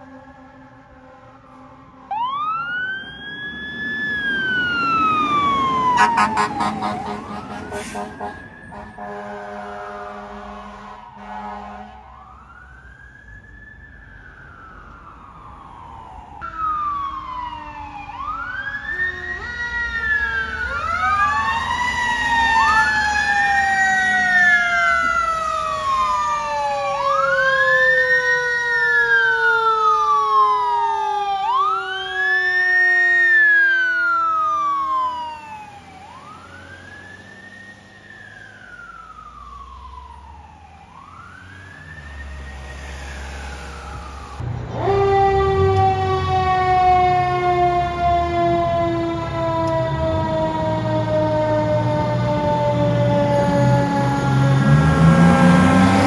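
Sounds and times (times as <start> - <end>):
fire truck sirens wailing: 0.0 - 56.0
low siren tone sliding down: 0.0 - 56.0.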